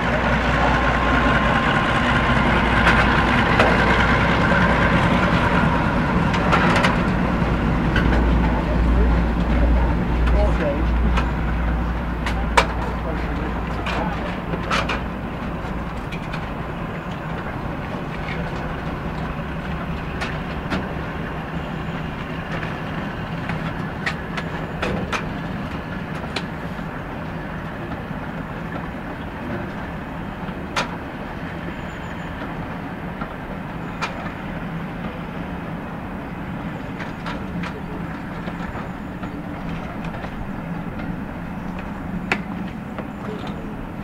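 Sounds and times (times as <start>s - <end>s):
diesel train engine and rail drone: 0.0s - 44.0s.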